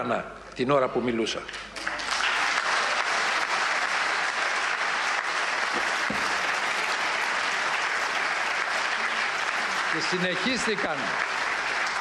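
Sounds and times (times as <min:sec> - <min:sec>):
crowd applauding: 0:01.7 - 0:12.0.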